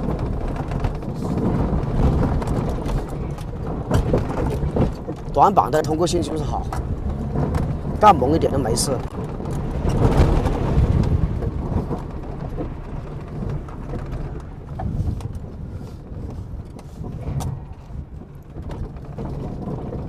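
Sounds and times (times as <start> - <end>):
suspension knocks and rattles: 0.0 - 20.0
vehicle engine and tyre rumble: 0.0 - 20.0.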